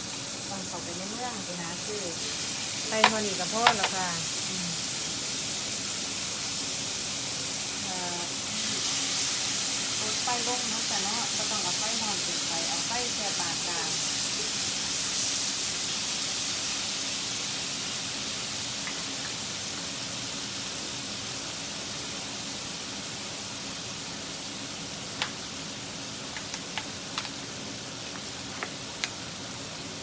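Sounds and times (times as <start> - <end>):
food sizzling in a frying pan: 0.0 - 30.0.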